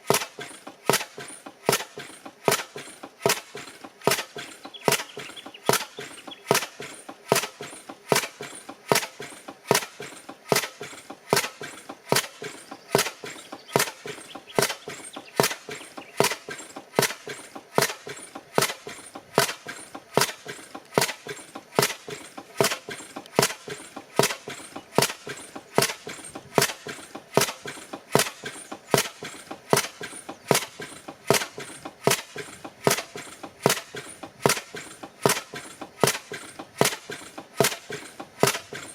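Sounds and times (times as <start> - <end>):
gas engine firing sharp cracks: 0.0 - 38.9.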